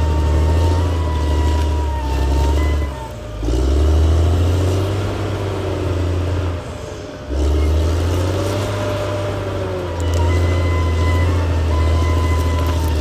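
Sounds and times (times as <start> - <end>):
bulldozer diesel engine rumbling: 0.0 - 13.0
bulldozer track noise: 0.0 - 13.0.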